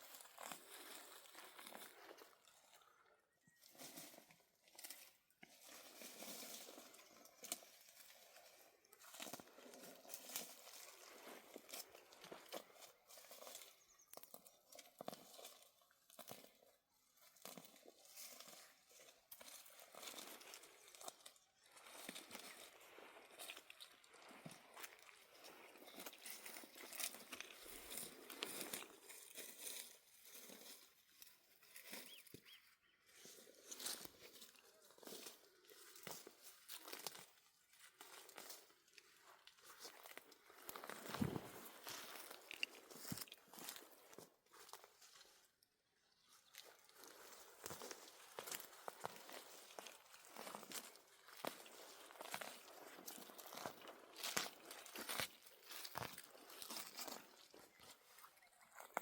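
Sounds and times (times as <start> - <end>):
faint rustling and crinkling: 0.0 - 59.0.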